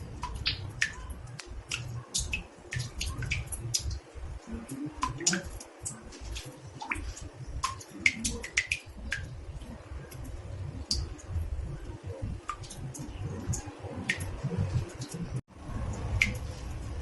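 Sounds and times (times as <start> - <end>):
water drops plinking in bathtub: 0.0 - 16.6
steady low rumble: 0.0 - 17.0.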